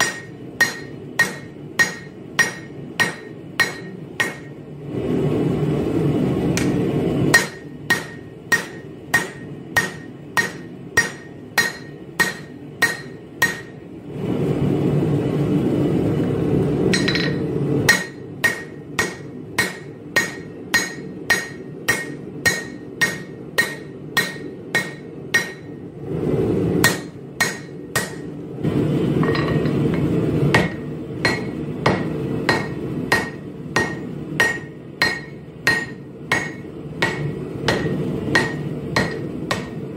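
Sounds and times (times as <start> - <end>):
hammer striking steel on anvil: 0.0 - 4.6, 6.6 - 13.8, 16.9 - 25.8, 26.8 - 28.3, 29.2 - 39.9.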